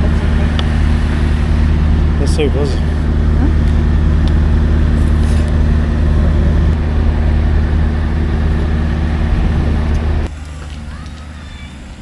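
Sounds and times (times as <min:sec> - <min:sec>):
low mechanical hum and rumble: 0:00.0 - 0:12.0.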